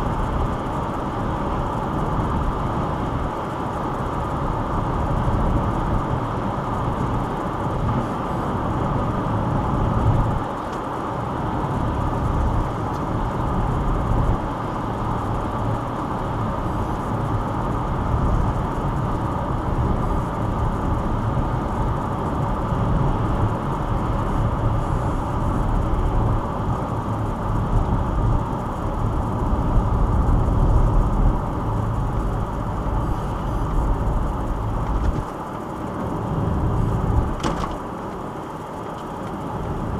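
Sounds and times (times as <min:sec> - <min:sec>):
engine and drivetrain rumble: 0:00.0 - 0:39.9
tyre roar on wet road: 0:00.0 - 0:39.9.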